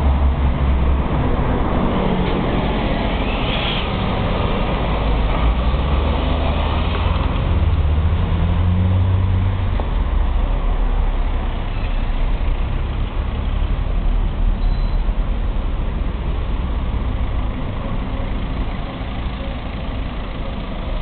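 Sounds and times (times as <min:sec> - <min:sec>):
heavy vehicle engine rumbling: 0:00.0 - 0:21.0
road traffic: 0:00.0 - 0:21.0.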